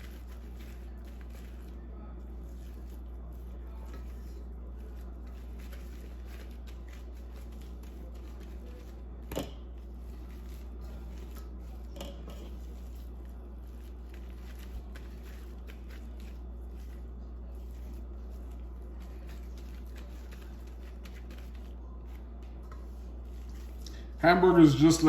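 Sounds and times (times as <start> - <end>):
hands shaping ground beef: 0.0 - 25.0
steady low hum: 0.0 - 25.0.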